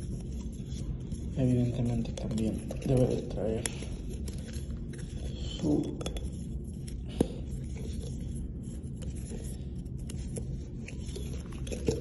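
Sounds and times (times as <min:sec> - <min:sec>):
metal tube scraping and rubbing: 0:00.0 - 0:12.0.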